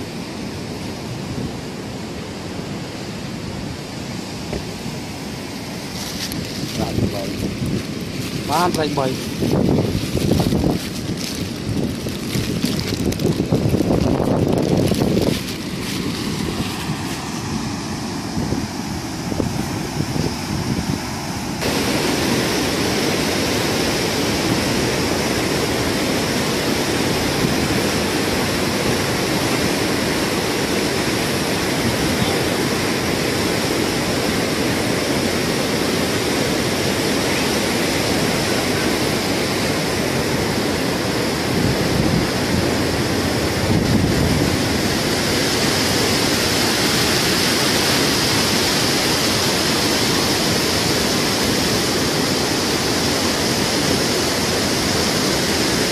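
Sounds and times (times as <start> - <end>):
water rushing over spillway: 0.0 - 55.9.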